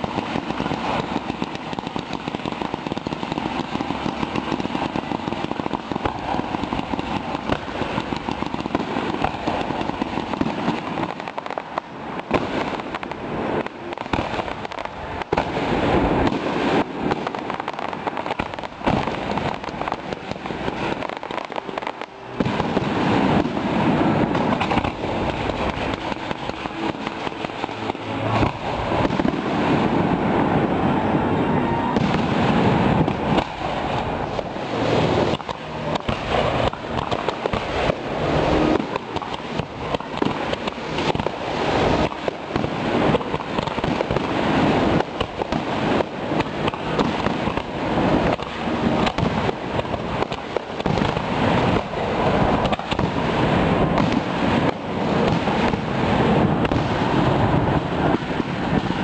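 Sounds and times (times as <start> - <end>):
fireworks bangs and crackle: 0.0 - 31.1, 31.8 - 59.0.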